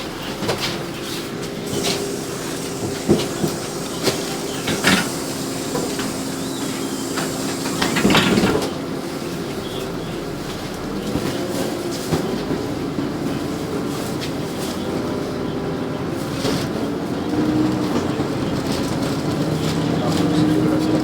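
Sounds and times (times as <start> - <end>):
bus body rattling and knocking: 0.0 - 21.0
bus engine drone: 0.0 - 21.0.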